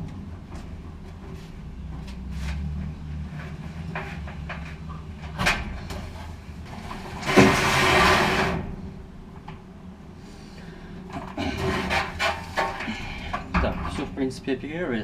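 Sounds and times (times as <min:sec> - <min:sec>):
dryer drum rumbling and scraping: 0:00.0 - 0:09.6, 0:11.0 - 0:15.0.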